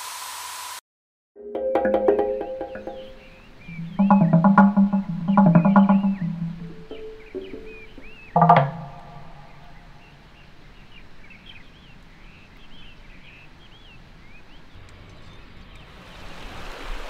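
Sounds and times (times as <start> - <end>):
small birds chirping: 2.0 - 16.0.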